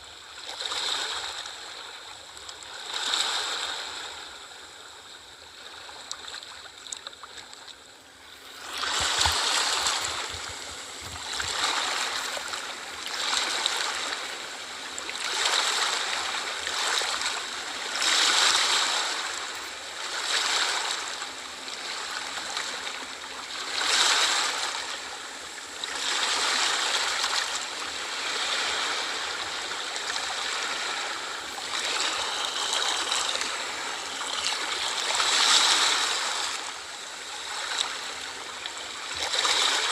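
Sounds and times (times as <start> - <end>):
small sea waves lapping: 0.0 - 39.9.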